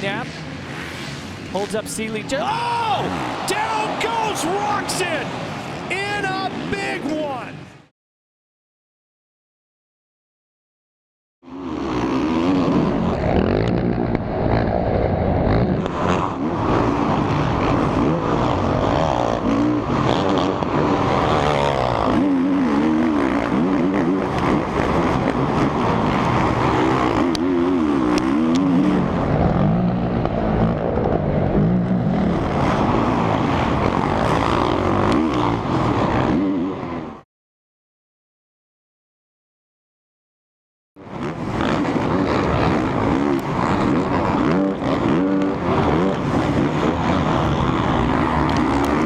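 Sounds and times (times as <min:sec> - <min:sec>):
motocross bike engines revving: 0:00.0 - 0:07.8, 0:11.5 - 0:37.2, 0:41.0 - 0:49.0.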